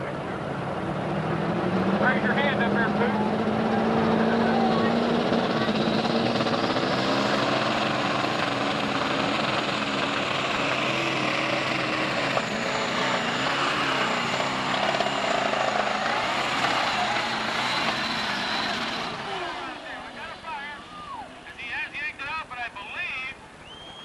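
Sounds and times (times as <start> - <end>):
diesel tractor engine at full throttle: 0.0 - 22.3.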